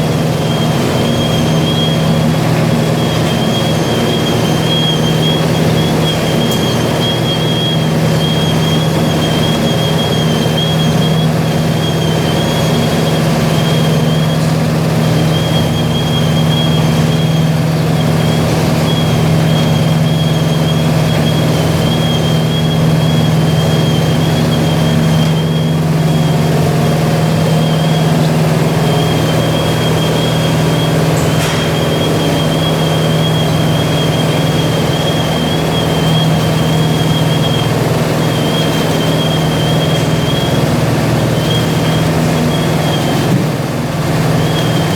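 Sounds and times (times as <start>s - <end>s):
thin high whine: 0.0s - 43.4s
washing machine low hum: 0.0s - 44.9s.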